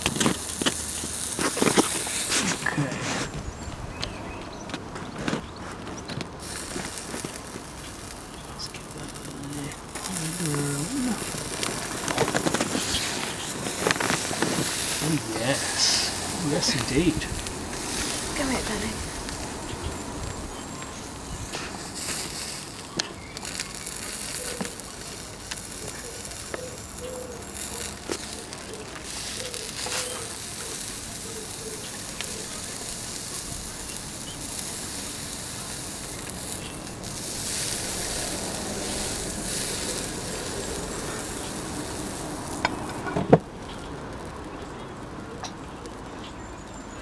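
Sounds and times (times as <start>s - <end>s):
steak sizzling: 0.0s - 4.4s, 6.2s - 44.6s
sharp pops: 0.0s - 43.8s
fire crackling and hissing: 0.0s - 47.0s.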